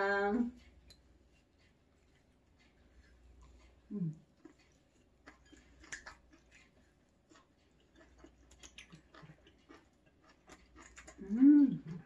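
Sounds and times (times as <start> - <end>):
chewing: 0.4 - 12.0.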